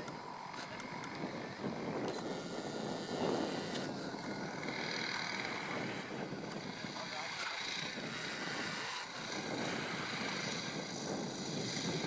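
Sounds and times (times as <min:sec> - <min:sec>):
model aircraft engine droning: 0:00.0 - 0:12.0.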